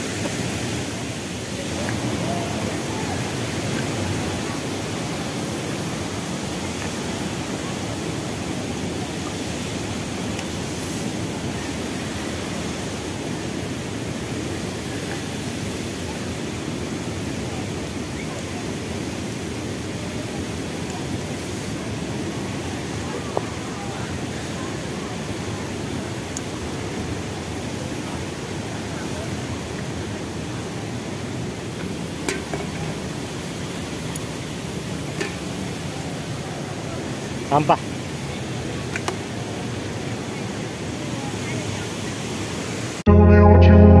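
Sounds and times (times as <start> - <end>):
large waterfall rushing: 0.0 - 44.0.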